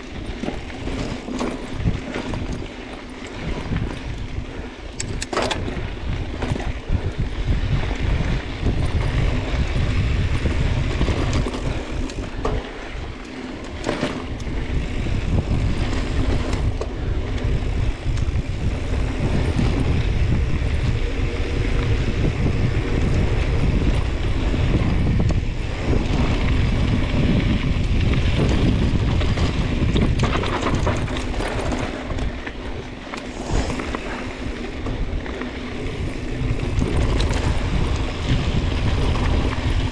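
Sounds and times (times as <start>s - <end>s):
tyres rolling on dirt trail: 0.0s - 39.9s
wind buffeting microphone: 3.4s - 39.9s.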